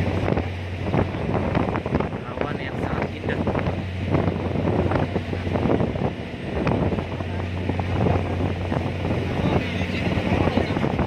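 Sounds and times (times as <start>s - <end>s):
ferry engine hum: 0.0s - 11.0s
wind buffeting microphone: 0.0s - 11.0s.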